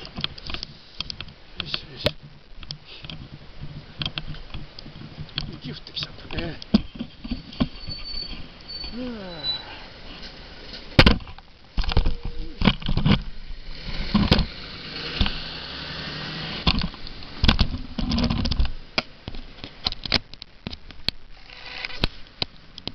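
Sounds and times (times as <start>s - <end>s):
low background noise: 0.0s - 22.9s.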